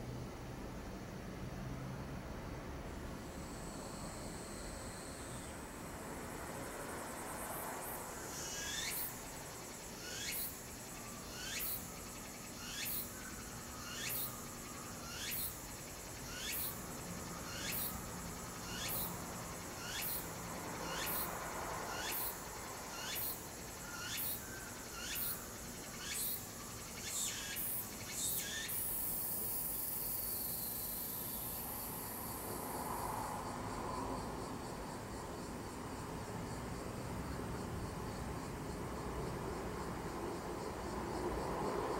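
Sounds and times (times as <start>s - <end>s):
cicada singing: 3.2s - 41.9s.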